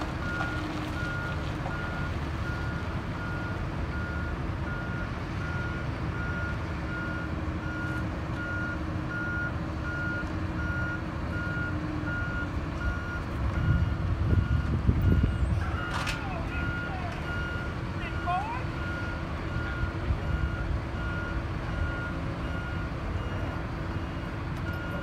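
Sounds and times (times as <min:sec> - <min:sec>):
heavy engine rumble: 0:00.0 - 0:25.0.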